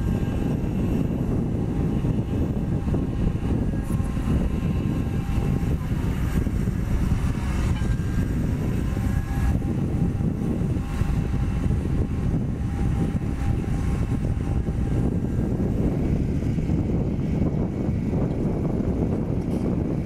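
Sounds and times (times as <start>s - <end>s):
crane diesel engine rumbling: 0.0s - 20.0s
faint whining tones: 0.0s - 20.0s.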